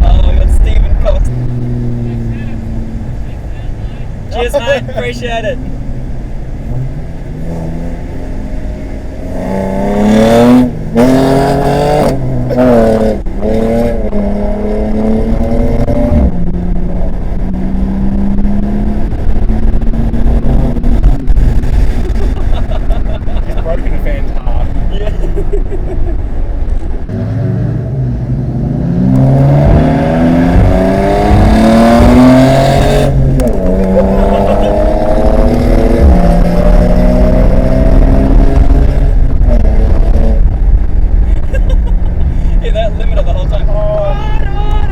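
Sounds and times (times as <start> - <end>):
car engine accelerating through gears: 0.0 - 44.9.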